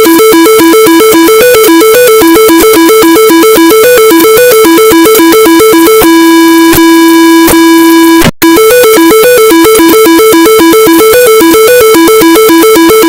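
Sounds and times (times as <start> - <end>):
two-pitch emergency alert alarm: 0.0 - 6.2, 8.4 - 13.0.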